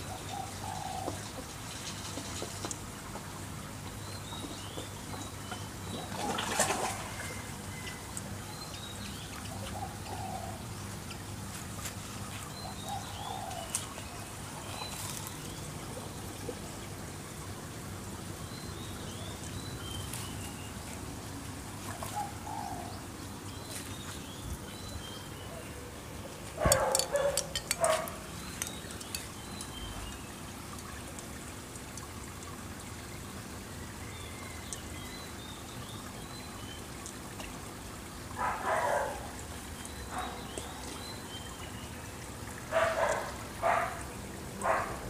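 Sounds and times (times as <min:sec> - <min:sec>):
trickling water: 0:00.0 - 0:45.0.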